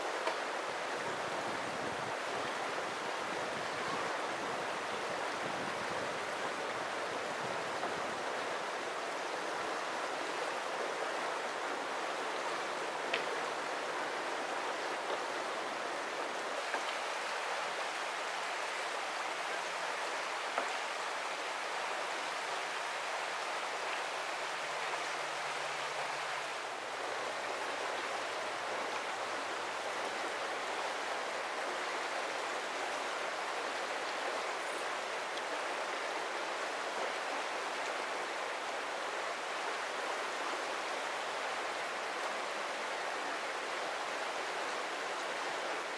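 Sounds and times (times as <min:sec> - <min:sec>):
river flowing over rocks: 0:00.0 - 0:45.9.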